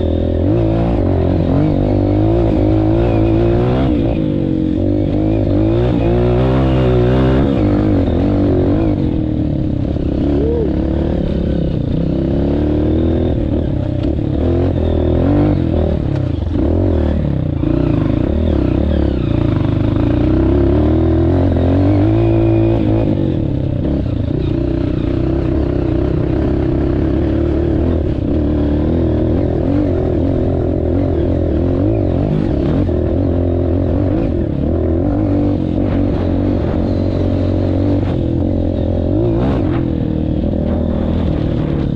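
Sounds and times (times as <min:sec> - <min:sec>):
trail bike engine revving: 0:00.0 - 0:41.9.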